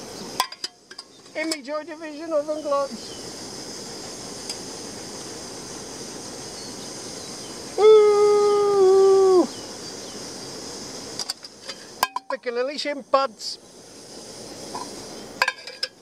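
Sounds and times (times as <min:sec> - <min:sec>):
camping stove hissing: 0:00.0 - 0:16.0.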